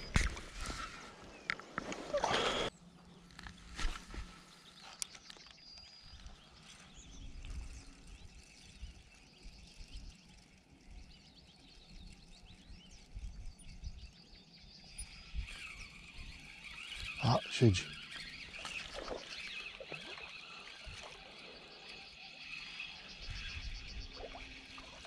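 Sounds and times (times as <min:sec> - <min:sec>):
distant birds chirping: 0:00.0 - 0:25.0.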